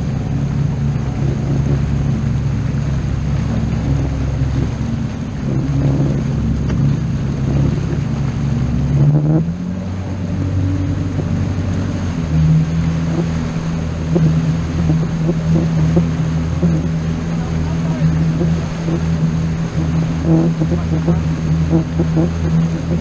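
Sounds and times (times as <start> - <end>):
motorboat engine running: 0.0 - 23.0.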